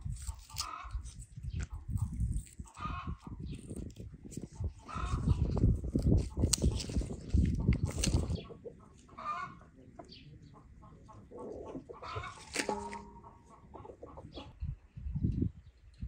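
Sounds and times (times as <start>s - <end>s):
chickens clucking: 0.0s - 15.5s.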